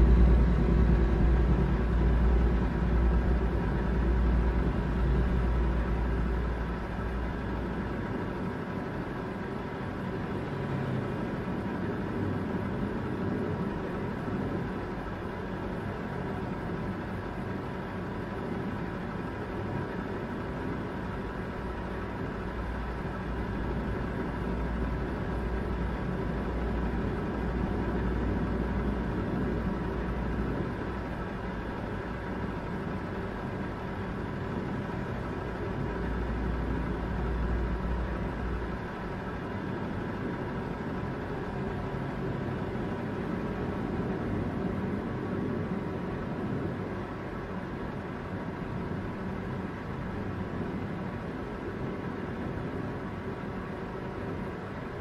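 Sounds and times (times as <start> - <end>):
heavy truck engine and road noise: 0.0 - 55.0.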